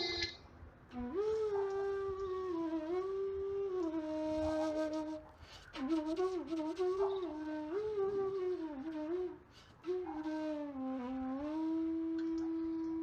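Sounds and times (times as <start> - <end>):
slow flute melody: 0.9 - 13.0.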